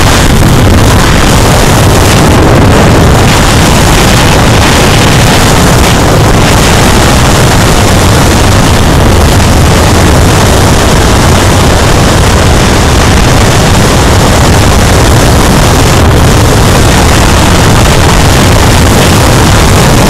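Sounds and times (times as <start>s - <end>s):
motorcycle engine drone: 0.0s - 20.0s
wind rush over microphone: 0.0s - 20.0s.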